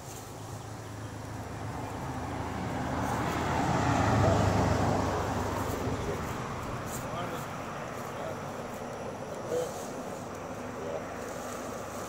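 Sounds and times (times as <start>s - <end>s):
vehicle passing by: 0.1s - 12.0s.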